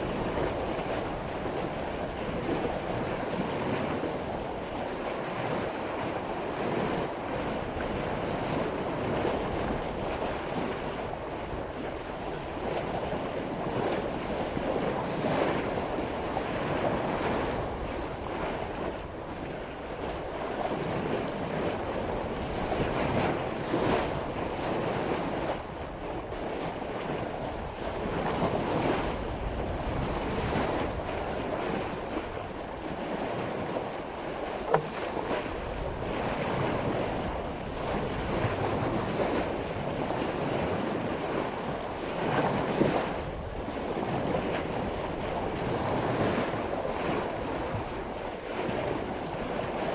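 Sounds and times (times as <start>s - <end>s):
water rushing along boat bow: 0.0s - 49.9s
wind on microphone: 0.0s - 49.9s.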